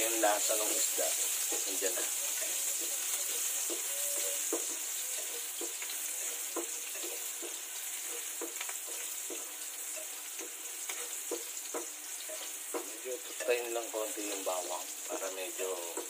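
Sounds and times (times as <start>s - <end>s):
garlic sizzling in oil: 0.0s - 16.0s
spatula stirring in pan: 0.0s - 16.0s.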